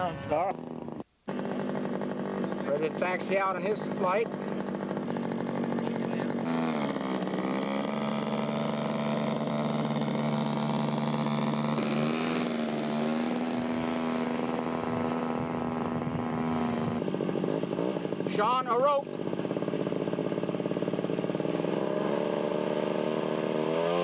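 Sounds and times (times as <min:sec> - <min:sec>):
model airplane engine running: 0:00.0 - 0:24.0.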